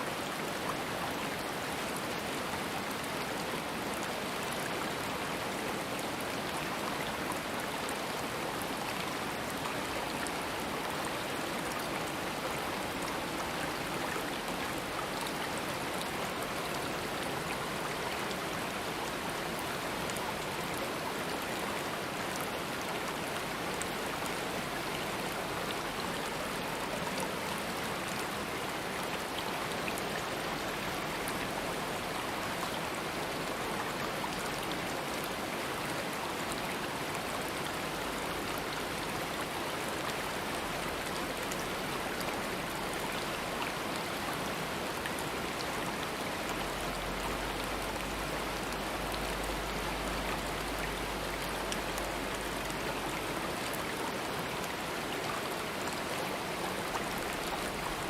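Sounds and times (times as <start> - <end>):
stream of running water: 0.0 - 58.0.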